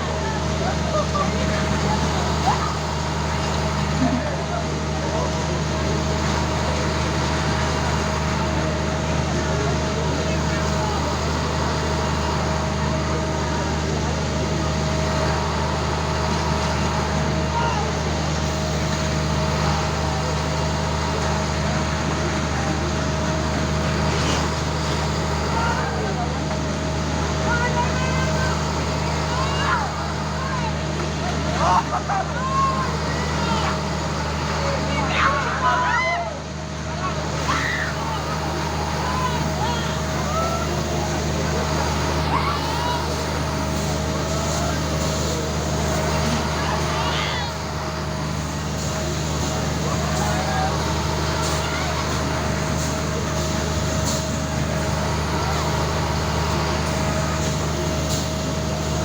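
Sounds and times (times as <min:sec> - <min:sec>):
motor droning with whine: 0:00.0 - 0:59.0
voices: 0:00.0 - 0:59.0.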